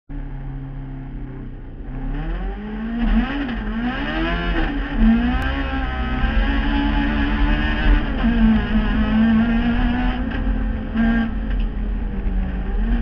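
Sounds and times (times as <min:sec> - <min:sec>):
race car engine revving: 0:00.2 - 0:13.0.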